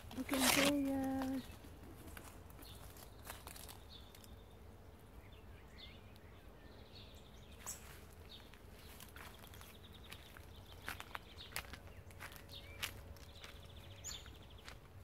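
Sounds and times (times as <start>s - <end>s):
faint bird chirps and trills: 0.0s - 15.0s.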